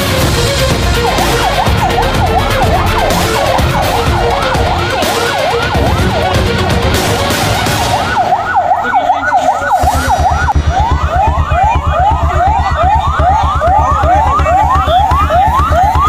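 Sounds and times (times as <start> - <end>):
ambulance siren wailing: 0.0 - 16.0
low pulsing beat: 0.0 - 16.0.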